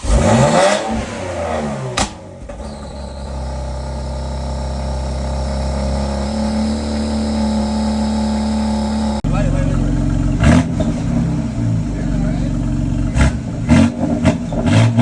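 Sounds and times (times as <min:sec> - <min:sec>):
car engine starting and idling: 0:00.0 - 0:15.0
exhaust crack: 0:00.0 - 0:15.0.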